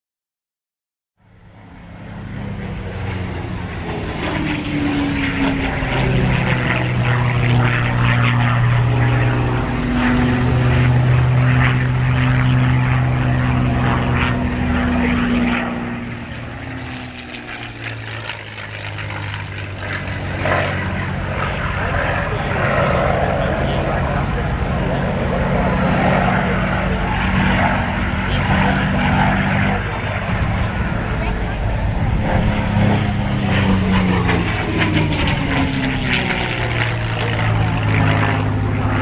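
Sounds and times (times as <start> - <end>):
propeller plane engine drone: 1.2 - 39.0.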